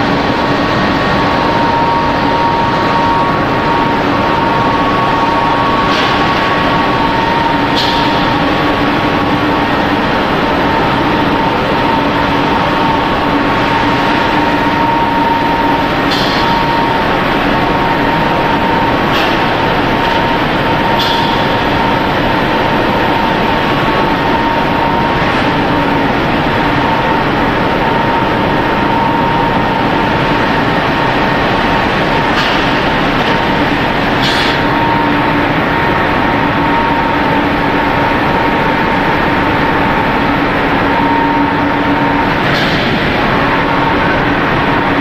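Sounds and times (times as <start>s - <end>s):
machinery droning: 0.0s - 45.0s
machinery whine: 0.0s - 45.0s.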